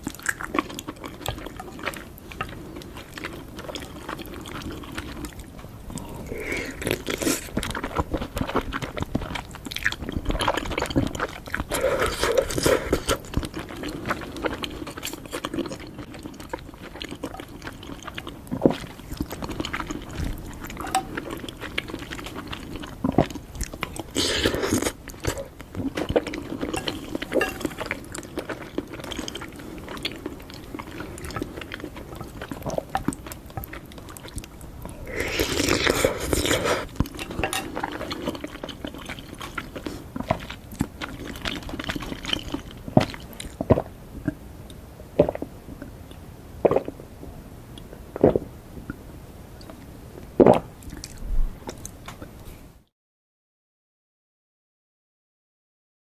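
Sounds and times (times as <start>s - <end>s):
wet chewing and mouth sounds: 0.0s - 47.0s, 50.4s - 52.4s.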